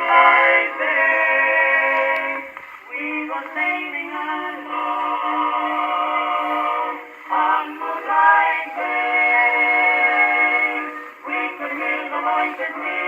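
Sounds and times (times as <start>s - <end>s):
male vocal quartet singing: 0.0s - 13.0s.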